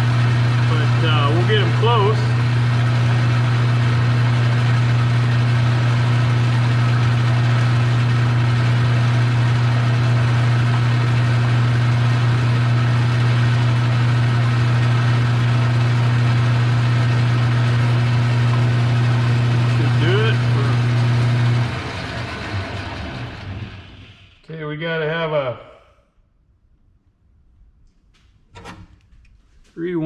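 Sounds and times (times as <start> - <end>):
metal lathe humming: 0.0 - 24.4.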